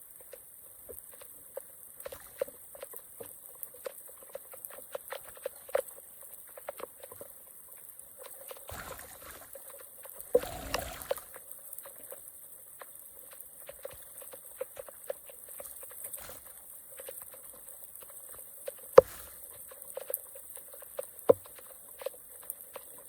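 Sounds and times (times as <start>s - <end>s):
water trickling and dripping: 0.0s - 23.0s.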